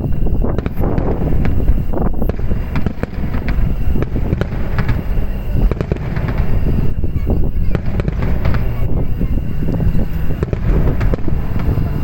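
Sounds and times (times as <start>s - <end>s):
fireworks bangs: 0.0s - 12.0s
low rumble of explosions: 0.0s - 12.0s.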